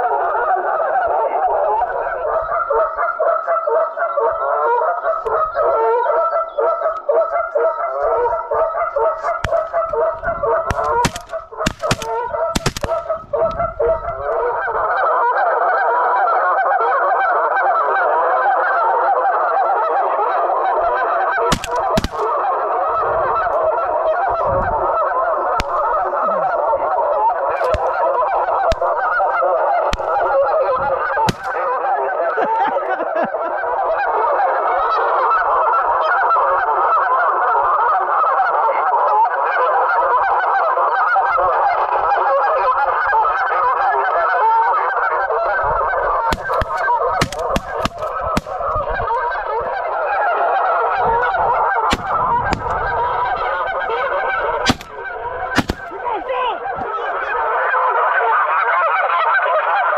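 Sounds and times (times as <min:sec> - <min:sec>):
flock of geese honking: 0:00.0 - 0:59.9.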